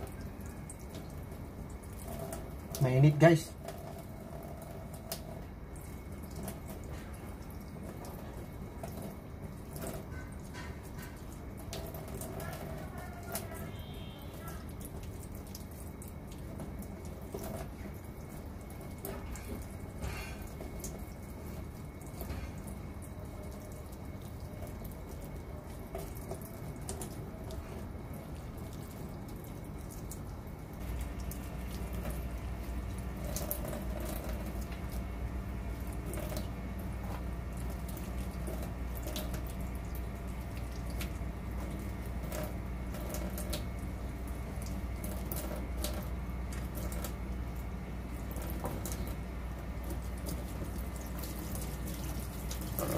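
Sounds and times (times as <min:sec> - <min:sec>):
tap water running into sink: 0:00.0 - 0:52.9.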